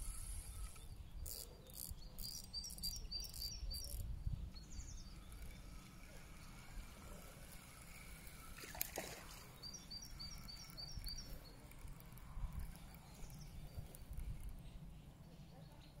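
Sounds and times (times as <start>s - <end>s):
bird chirping: 0.5s - 6.8s, 9.1s - 16.0s.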